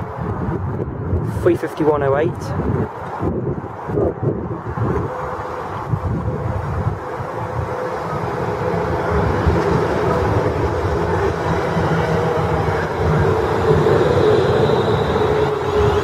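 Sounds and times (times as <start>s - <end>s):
electric train rumble: 0.0s - 1.4s, 2.6s - 16.0s
electric train whine: 2.7s - 16.0s.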